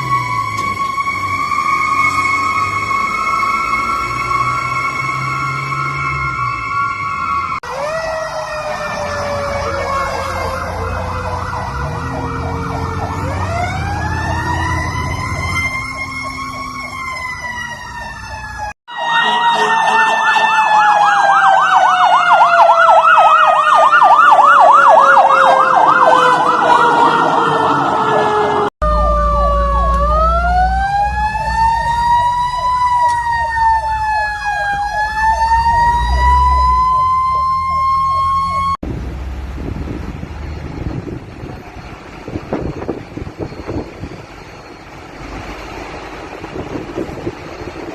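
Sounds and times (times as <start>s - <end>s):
fast yelping siren: 0.0s - 38.8s
fire engine siren wail: 0.0s - 47.9s
truck engine rumble: 0.0s - 47.9s.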